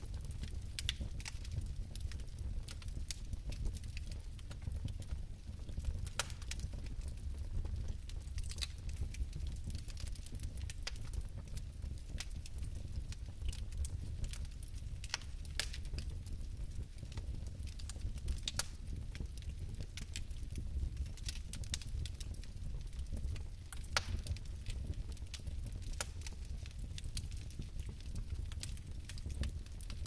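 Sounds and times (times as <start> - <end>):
fire crackles: 0.0 - 30.0
fireplace flame rumbling: 0.0 - 30.0.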